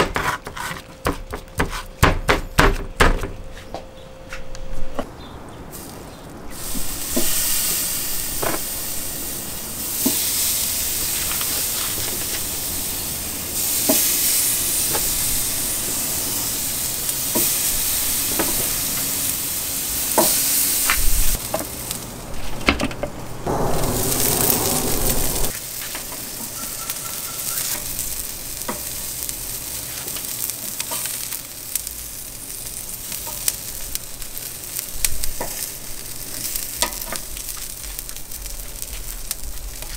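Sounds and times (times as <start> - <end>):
meat sizzling on a grill: 5.7 - 22.6, 24.0 - 39.9.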